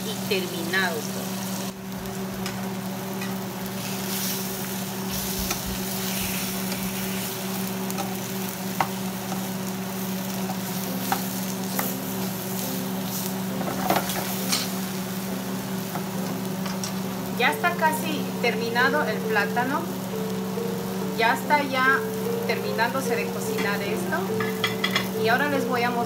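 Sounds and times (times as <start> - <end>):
plantain slices sizzling in pan: 0.0 - 26.0.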